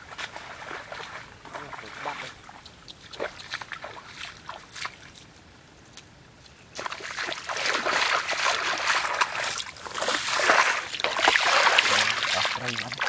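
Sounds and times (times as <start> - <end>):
footsteps splashing in muddy water: 0.0 - 5.5, 6.7 - 13.0.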